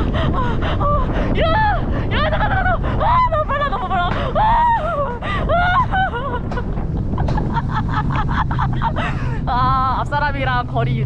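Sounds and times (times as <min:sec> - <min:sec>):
coaster cart running on rail: 0:00.0 - 0:11.0
wind rumble on microphone: 0:00.0 - 0:11.0.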